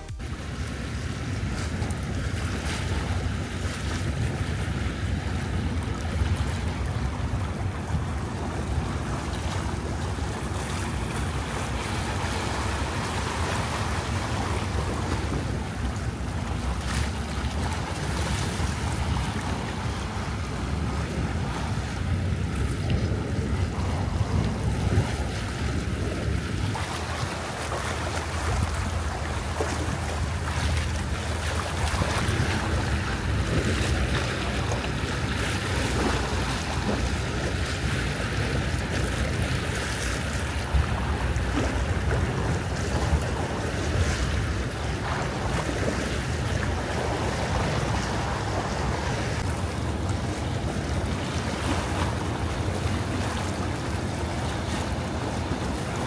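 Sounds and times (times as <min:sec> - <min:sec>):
steady low rumble: 0:00.0 - 0:56.0
water washing: 0:00.0 - 0:56.0
wind on microphone: 0:00.0 - 0:56.0.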